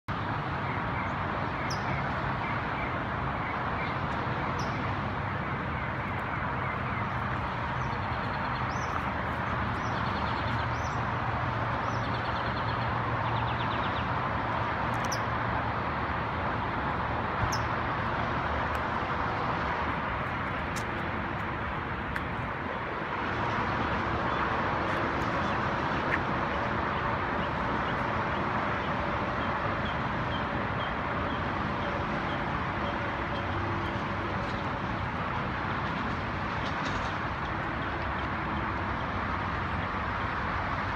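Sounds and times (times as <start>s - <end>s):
distant traffic hum: 0.1s - 40.9s.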